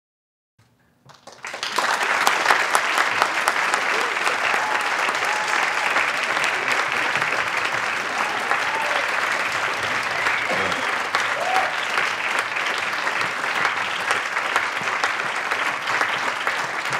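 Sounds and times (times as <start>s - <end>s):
crowd applauding: 1.1s - 16.9s.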